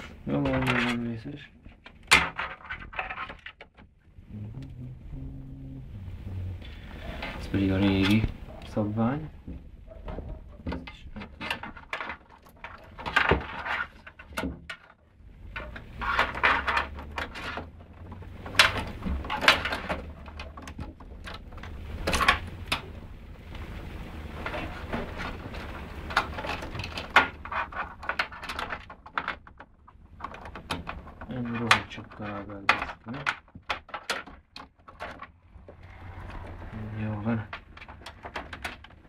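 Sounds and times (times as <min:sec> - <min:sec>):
clicks and knocks of cables: 0:00.0 - 0:03.9, 0:09.5 - 0:23.0, 0:24.4 - 0:36.7, 0:37.4 - 0:39.0
rustling: 0:00.0 - 0:39.0.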